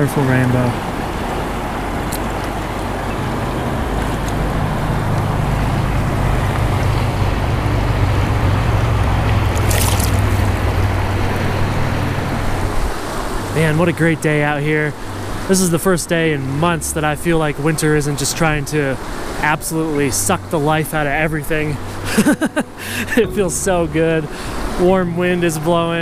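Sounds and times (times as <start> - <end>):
water splash: 0.0 - 24.9
rushing river water: 0.0 - 26.0.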